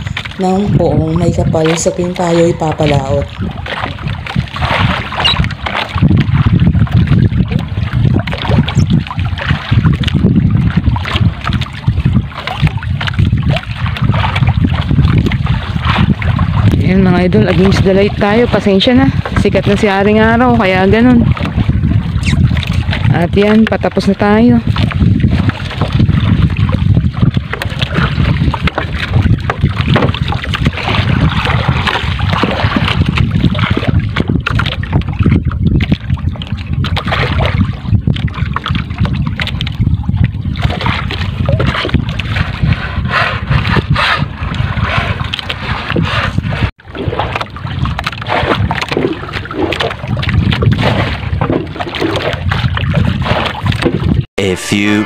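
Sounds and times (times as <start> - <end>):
water slapping against boat: 0.0 - 55.0
wind on microphone: 0.0 - 55.0.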